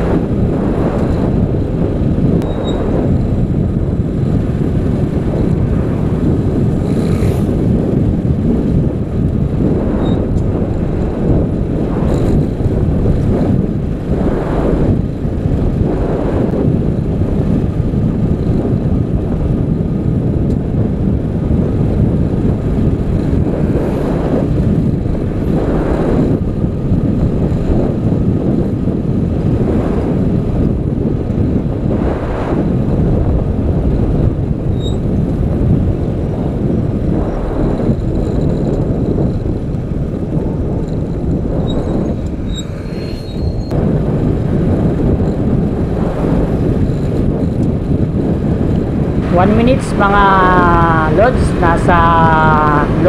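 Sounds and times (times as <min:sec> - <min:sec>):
motorcycle riding at speed: 0:00.0 - 0:53.0
wind rushing on microphone: 0:00.0 - 0:53.0.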